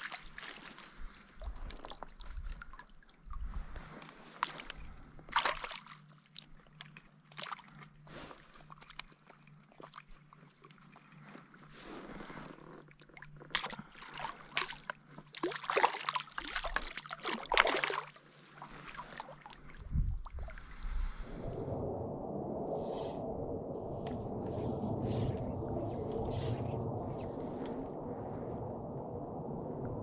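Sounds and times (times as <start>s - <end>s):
water splashing and sloshing: 0.0s - 28.8s.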